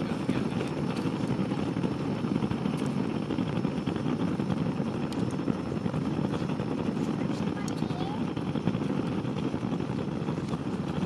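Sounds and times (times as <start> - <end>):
campfire rumble: 0.0 - 11.0
faint fire crackles: 0.0 - 11.0.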